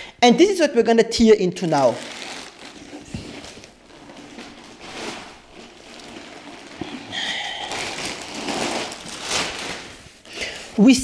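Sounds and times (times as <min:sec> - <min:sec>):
plastic bag rustling: 0:01.6 - 0:10.8.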